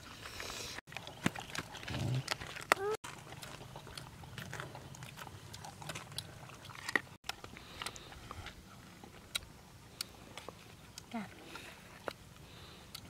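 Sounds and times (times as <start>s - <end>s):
dogs chewing food: 0.0s - 13.0s.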